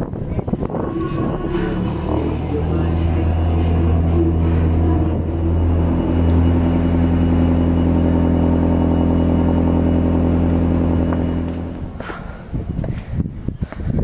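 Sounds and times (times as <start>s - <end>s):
vehicle engine idling: 0.5s - 12.9s.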